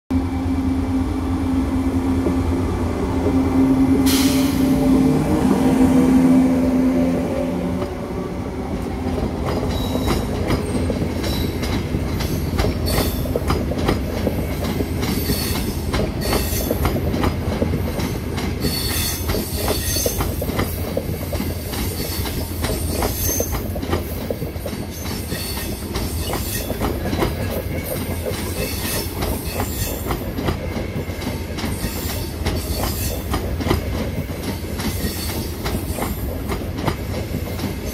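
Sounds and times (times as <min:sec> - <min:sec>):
electric train hum: 0:00.1 - 0:37.9.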